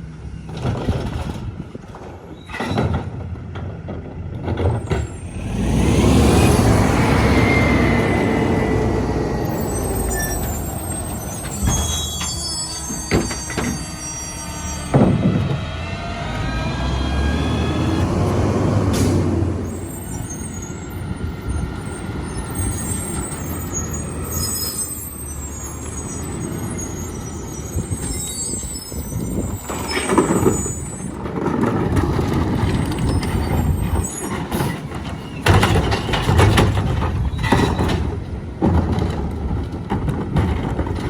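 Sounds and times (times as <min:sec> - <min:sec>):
garbage truck diesel engine running: 0:03.3 - 0:41.0.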